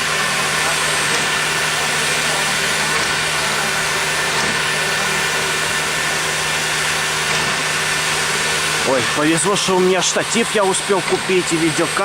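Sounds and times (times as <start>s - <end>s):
engine-like drone: 0.0s - 12.0s.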